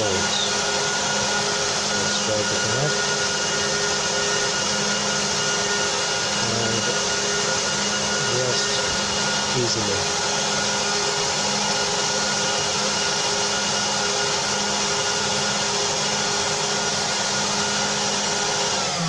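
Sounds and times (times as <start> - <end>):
cooling fan running: 0.0 - 19.0.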